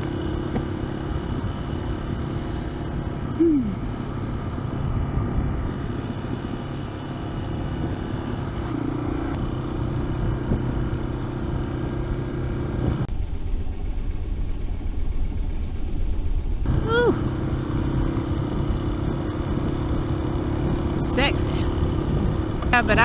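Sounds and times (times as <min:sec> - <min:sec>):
low road rumble: 0:00.0 - 0:23.0
motorcycle engine running: 0:00.0 - 0:23.0.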